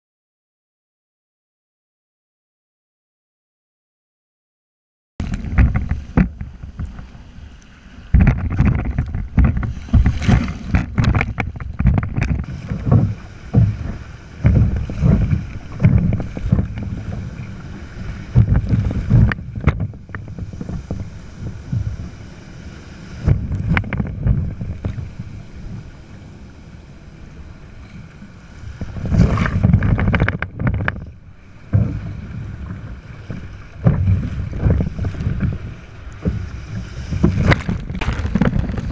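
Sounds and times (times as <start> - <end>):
wind buffeting microphone: 5.2 - 26.2, 27.6 - 38.9
surf splashing against kayak: 5.2 - 38.9.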